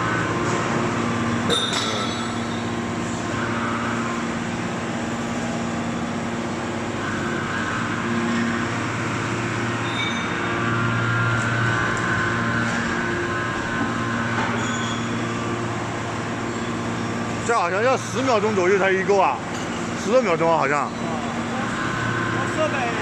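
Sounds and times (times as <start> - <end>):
high whine: 0.0 - 23.0
hydraulic unit humming: 0.0 - 23.0.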